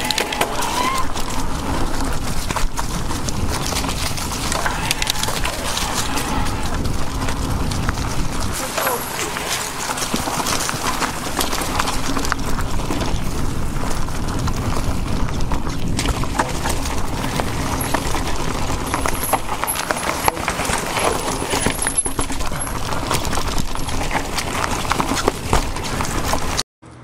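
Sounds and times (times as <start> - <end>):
bike clattering and rattling: 0.0 - 27.0
wind and tyre rumble: 0.0 - 27.0.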